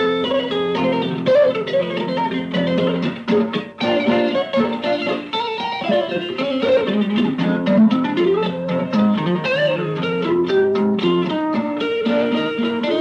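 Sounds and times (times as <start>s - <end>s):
blues guitar playing: 0.0s - 13.0s.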